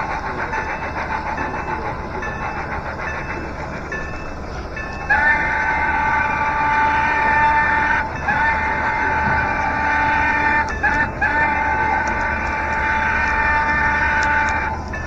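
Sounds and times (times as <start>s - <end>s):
steam locomotive running: 0.0s - 15.0s
steam whistle chord: 0.0s - 15.0s.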